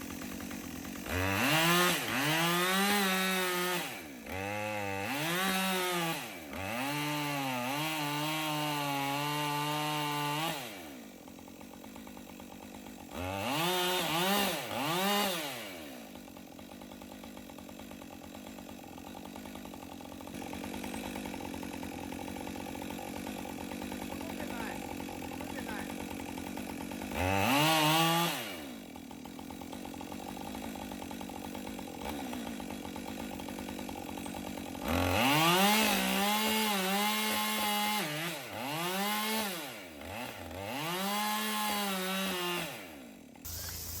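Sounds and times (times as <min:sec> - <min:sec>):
chainsaw revving and idling: 0:00.0 - 0:44.0.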